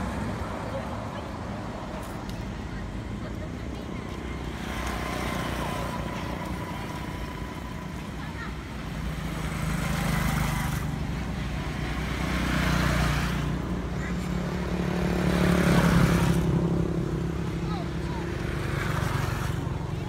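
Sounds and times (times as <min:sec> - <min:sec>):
low engine hum: 0:00.0 - 0:20.0
vehicles passing: 0:00.0 - 0:20.0.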